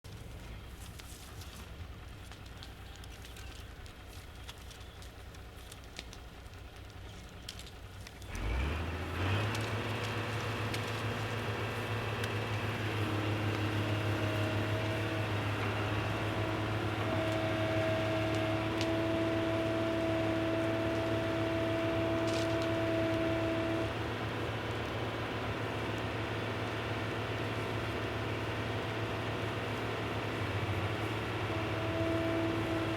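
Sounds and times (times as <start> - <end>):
engine starting and running: 0.1 - 32.9.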